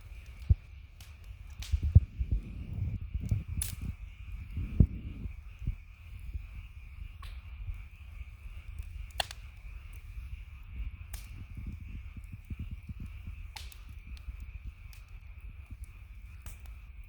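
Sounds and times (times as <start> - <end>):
low rumble: 0.0 - 15.8
campfire crackling: 0.0 - 17.0
fire popping: 0.0 - 17.0.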